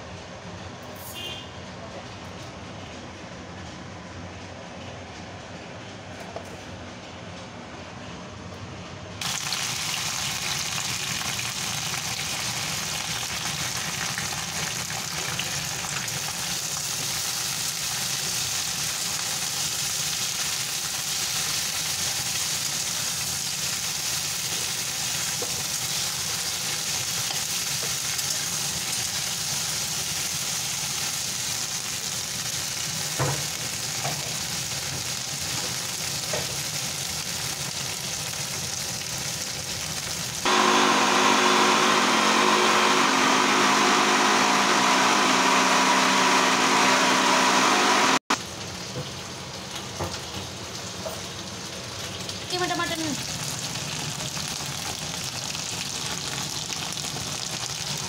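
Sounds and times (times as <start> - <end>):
okra sizzling in frying pan: 9.2 - 58.0.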